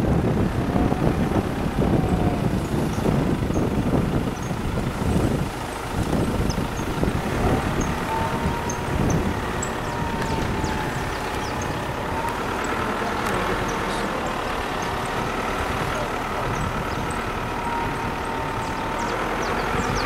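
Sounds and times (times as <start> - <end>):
wind blowing on microphone: 0.0 - 20.0.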